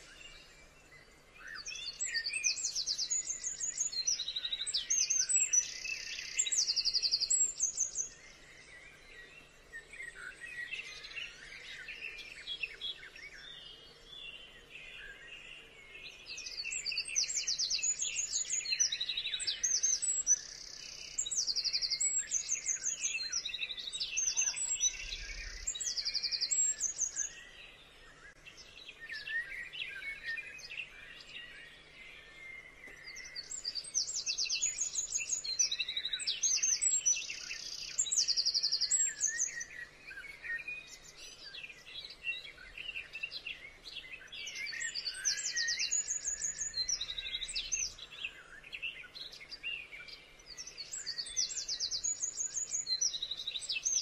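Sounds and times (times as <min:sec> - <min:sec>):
bird singing trills: 0:00.0 - 0:54.0
soft bird chirping: 0:00.0 - 0:54.0.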